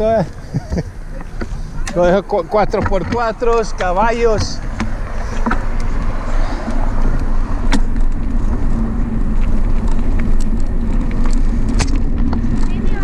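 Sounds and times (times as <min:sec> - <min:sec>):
bicycle tyre noise on asphalt: 0:00.0 - 0:13.0
wind rush on microphone: 0:00.0 - 0:13.0.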